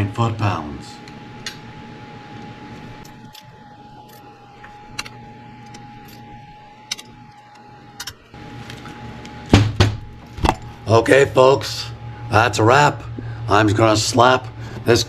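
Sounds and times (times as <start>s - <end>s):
faint high tone hum: 0.0s - 15.0s.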